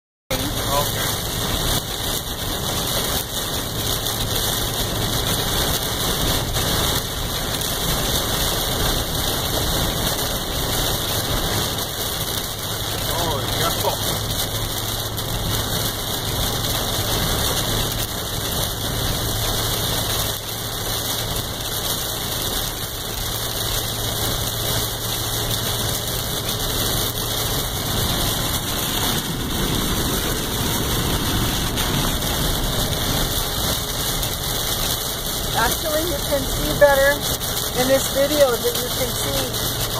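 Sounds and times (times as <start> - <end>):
engine and road noise: 0.3 - 39.9
heavy rain on truck windshield: 0.3 - 39.9
low engine hum: 0.3 - 39.9.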